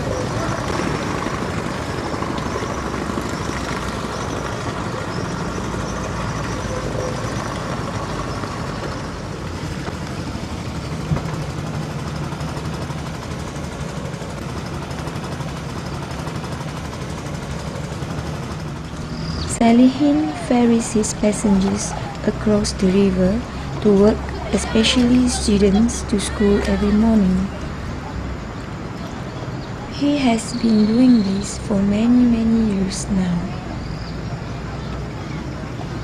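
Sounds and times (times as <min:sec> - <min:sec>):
boat engine humming: 0:00.0 - 0:36.0.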